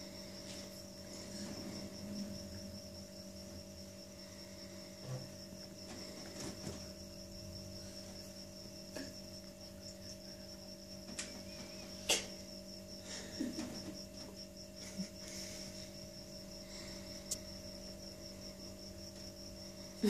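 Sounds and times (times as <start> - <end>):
cricket trill: 0.0 - 20.0
low electrical hum: 0.0 - 20.0.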